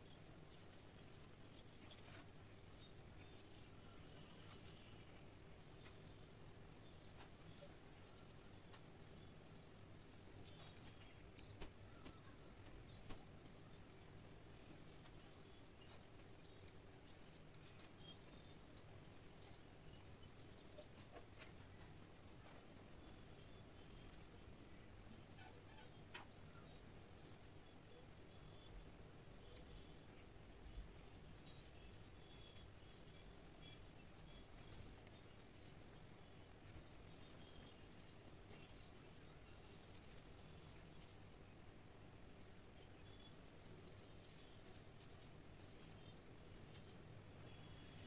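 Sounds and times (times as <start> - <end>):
low room hum: 0.0 - 48.0
small bird chirping: 0.0 - 48.0.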